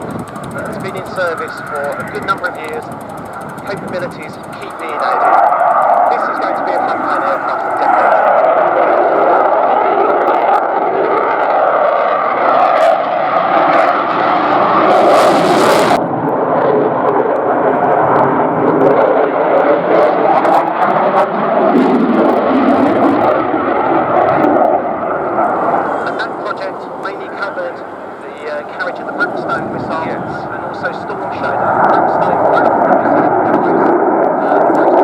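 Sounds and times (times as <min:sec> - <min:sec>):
jet engines rushing: 0:00.0 - 0:35.0.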